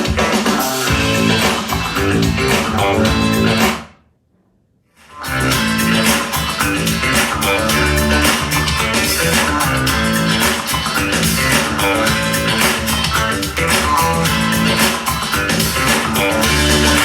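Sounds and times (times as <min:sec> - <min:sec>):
guitar song with bass on speaker: 0:00.9 - 0:03.7, 0:05.2 - 0:17.0.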